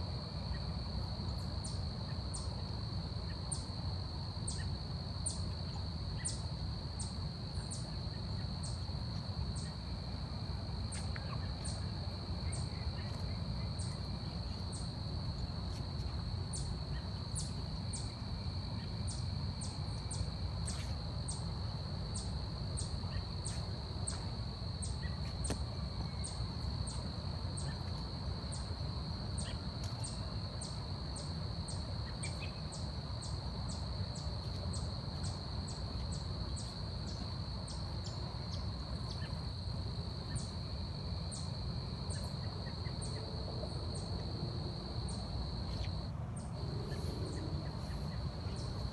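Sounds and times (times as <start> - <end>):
insect chirps: 0.0 - 48.9
insects trilling: 0.1 - 48.9.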